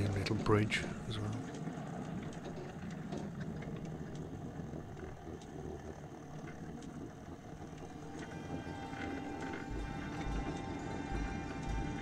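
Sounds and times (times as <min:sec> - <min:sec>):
small train rumbling on track: 0:00.0 - 0:12.0
wheels clicking on rails: 0:00.0 - 0:12.0.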